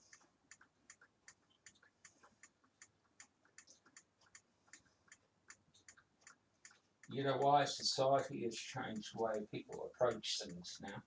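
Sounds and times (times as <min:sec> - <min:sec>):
wall clock ticking: 0:00.0 - 0:11.0.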